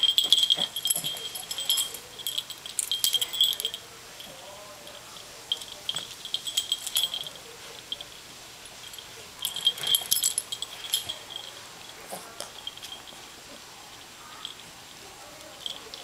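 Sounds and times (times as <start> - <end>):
dog collar tag jingling: 0.0 - 13.2.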